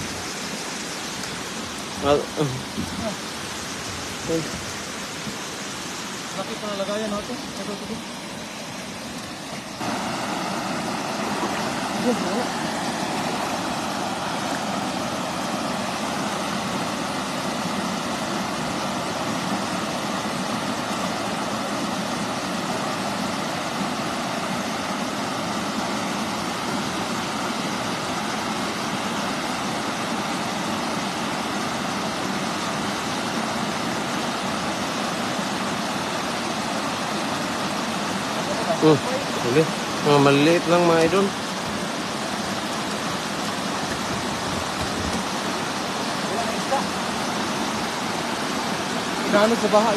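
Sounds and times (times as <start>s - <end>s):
water rushing over a weir: 0.0s - 49.9s.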